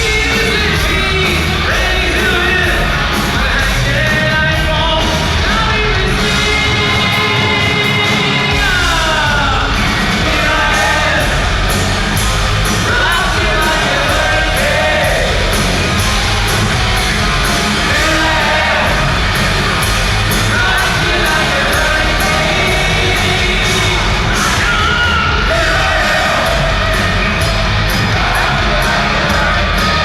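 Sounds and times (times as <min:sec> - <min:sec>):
distorted electric guitars: 0:00.0 - 0:30.0
drum beat: 0:00.0 - 0:30.0.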